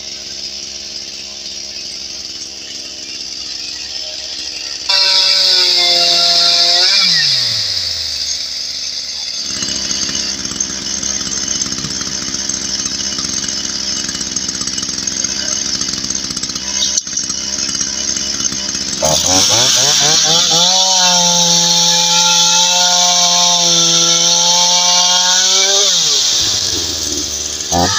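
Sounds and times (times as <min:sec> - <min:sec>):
chainsaw engine revving: 0:00.0 - 0:27.9.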